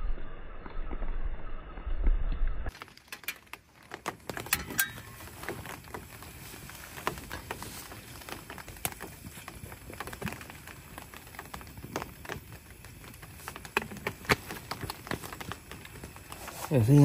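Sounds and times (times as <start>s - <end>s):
raindrops ticking: 2.7s - 17.0s
soft rain hiss: 2.8s - 17.0s.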